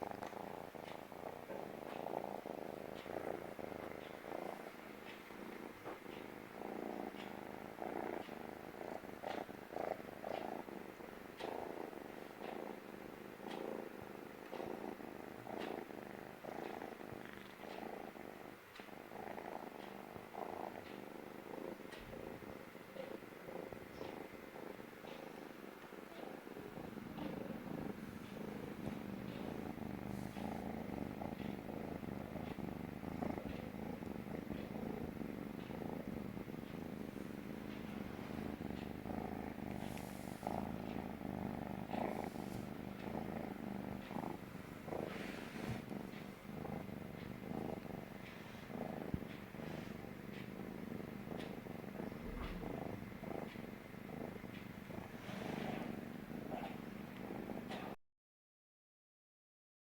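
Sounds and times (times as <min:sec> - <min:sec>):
faint rustles: 0:00.0 - 0:58.0
kitten purring: 0:00.0 - 0:58.0.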